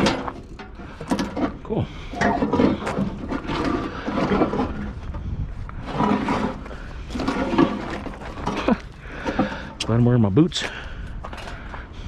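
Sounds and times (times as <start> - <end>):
scrap metal knocking and scraping: 0.0 - 10.0.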